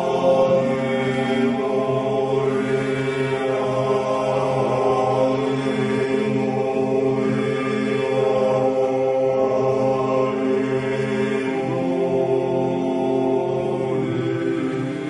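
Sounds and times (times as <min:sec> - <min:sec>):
choir chanting long held notes: 0:00.0 - 0:15.0.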